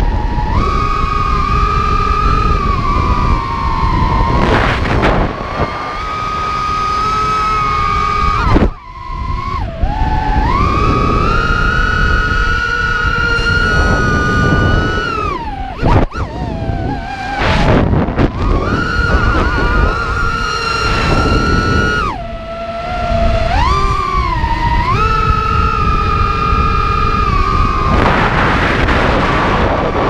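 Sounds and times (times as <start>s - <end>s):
quadcopter motors whining: 0.0s - 30.0s
wind on microphone: 0.0s - 30.0s.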